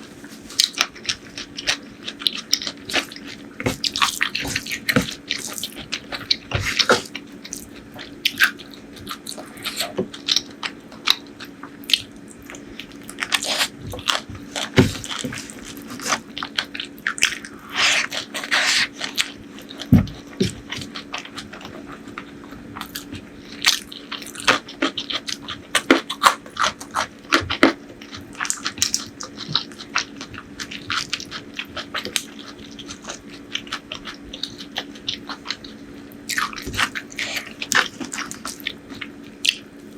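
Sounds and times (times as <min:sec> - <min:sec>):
faint steady hum: 0:00.0 - 0:39.9
chewing and mouth clicks: 0:00.5 - 0:39.7.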